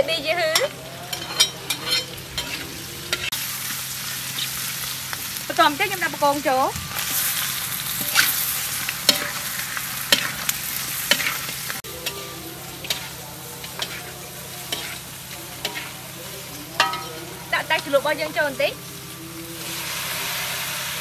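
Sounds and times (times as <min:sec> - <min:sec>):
shrimp sizzling in a wok: 0:00.0 - 0:21.0
metal spatula scraping a wok: 0:00.5 - 0:05.3, 0:06.8 - 0:21.0.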